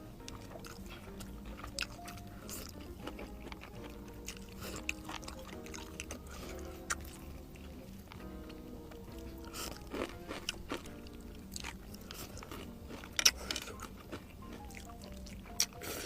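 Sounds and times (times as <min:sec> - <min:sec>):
background music: 0:00.0 - 0:16.0
chewing crispy food: 0:00.0 - 0:16.0.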